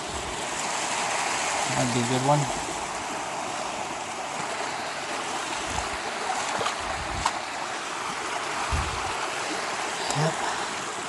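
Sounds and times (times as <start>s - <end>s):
creek water rushing over rock: 0.0s - 11.0s.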